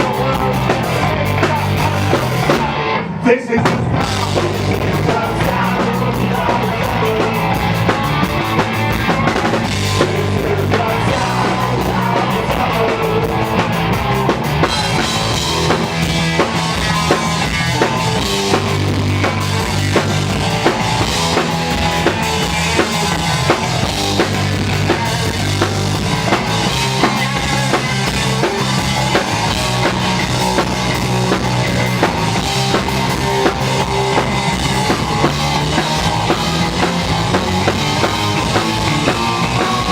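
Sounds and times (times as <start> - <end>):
drum kit beat: 0.0 - 2.8, 3.5 - 39.9
bass line: 0.0 - 39.9
punk rock band playing live: 0.0 - 39.9.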